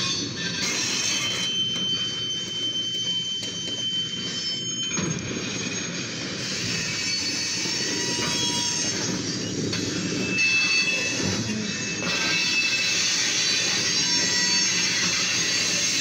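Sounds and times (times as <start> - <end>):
high wheel squeals: 0.0 - 16.0
train wheels rumbling on rail: 0.0 - 16.0.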